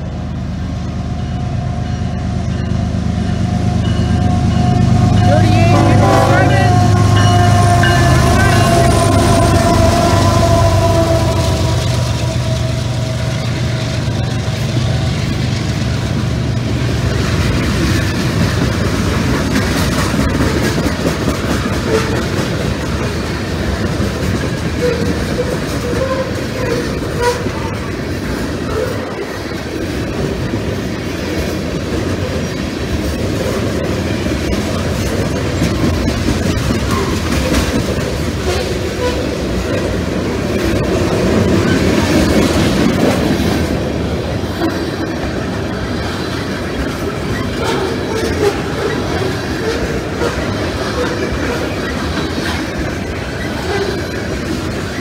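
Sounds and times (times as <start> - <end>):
clickety-clack over rail joints: 0.0 - 55.0
locomotive engine drone: 0.0 - 55.0
train wheels rumbling on rail: 0.0 - 55.0.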